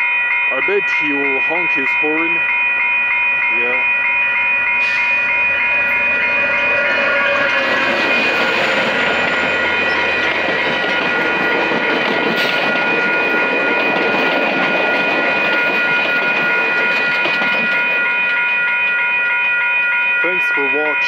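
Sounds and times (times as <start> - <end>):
level crossing bell ringing: 0.0 - 21.0
train passing: 0.0 - 21.0
wheels rushing on rail: 2.4 - 20.3.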